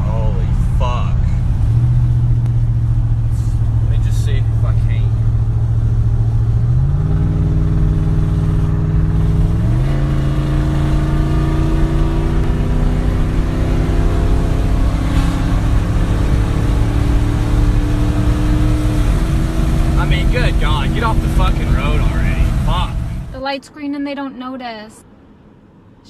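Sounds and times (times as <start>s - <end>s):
car engine accelerating hard: 0.0s - 23.4s.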